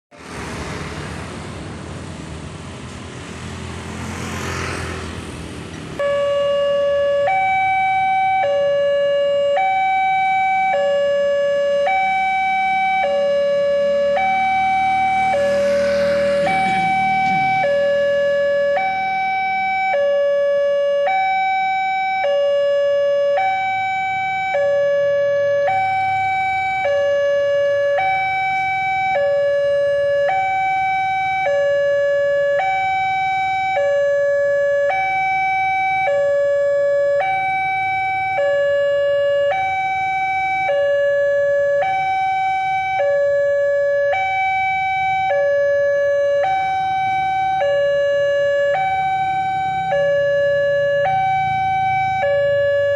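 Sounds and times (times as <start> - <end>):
two-tone crossing alarm: 5.9 - 52.9.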